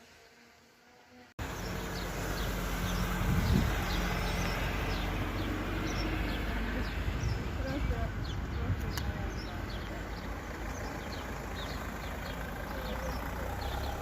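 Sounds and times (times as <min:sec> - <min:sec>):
small birds chirping: 0:01.4 - 0:14.0.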